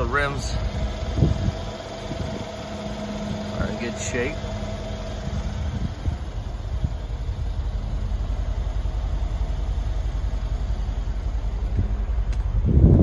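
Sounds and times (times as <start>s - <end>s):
car engine idling: 0.0s - 13.0s
wind buffeting microphone: 0.0s - 13.0s.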